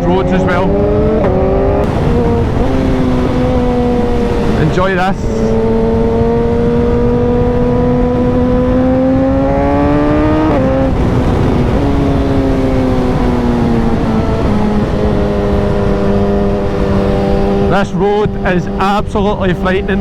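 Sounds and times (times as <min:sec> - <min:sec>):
motorcycle engine under throttle: 0:00.0 - 0:20.0
wind rush: 0:00.0 - 0:20.0.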